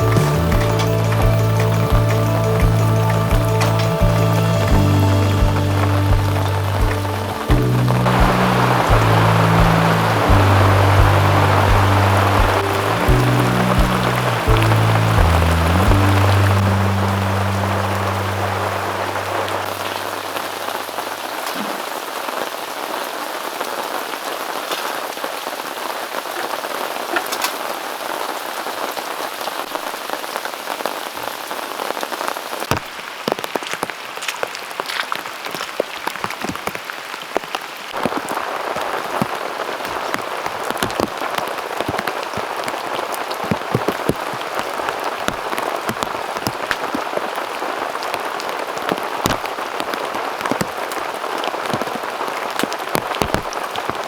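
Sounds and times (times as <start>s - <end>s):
heavy rain pouring: 0.0s - 54.0s
sharp raindrops striking close: 0.0s - 54.0s.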